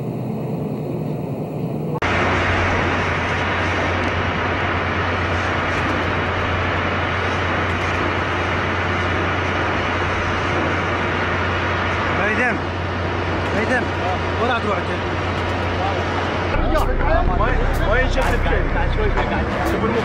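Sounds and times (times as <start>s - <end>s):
drilling rig roar: 0.0s - 20.0s
low hum: 0.0s - 20.0s.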